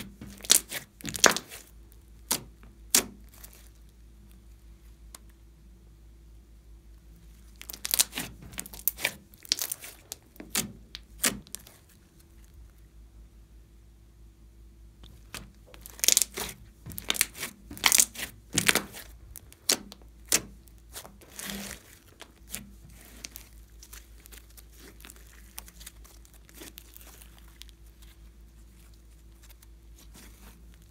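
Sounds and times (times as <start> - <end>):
slime popping and crackling: 0.0 - 3.8, 7.4 - 12.6, 15.0 - 30.9.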